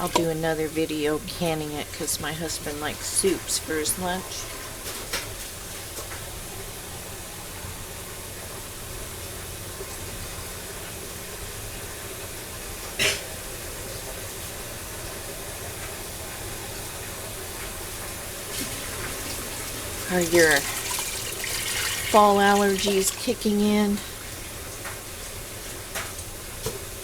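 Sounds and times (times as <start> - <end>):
steady hissing noise: 0.0 - 27.0.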